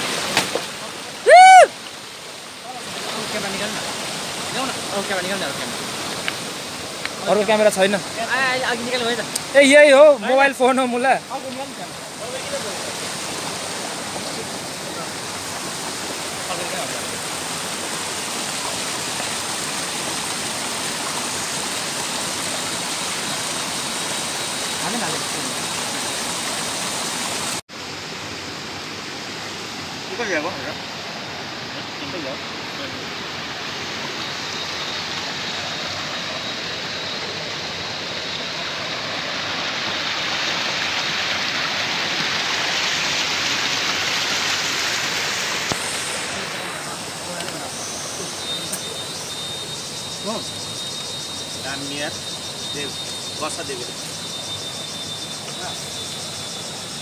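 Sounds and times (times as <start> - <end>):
stream rushing over boulders: 0.0 - 57.0.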